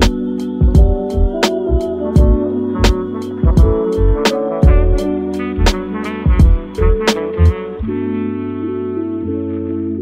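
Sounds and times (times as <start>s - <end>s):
lo-fi hip-hop music: 0.0s - 10.0s.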